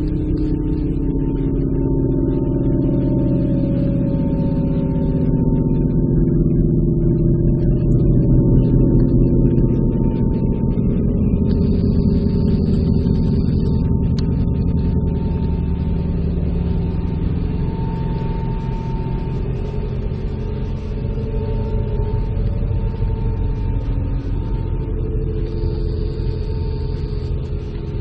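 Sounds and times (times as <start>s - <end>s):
deep droning rumble: 0.0s - 28.0s.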